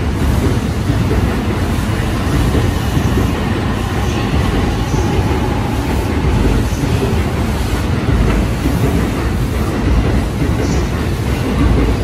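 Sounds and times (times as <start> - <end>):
faint train whine: 0.0 - 12.0
train wheels rumbling on rails: 0.0 - 12.0.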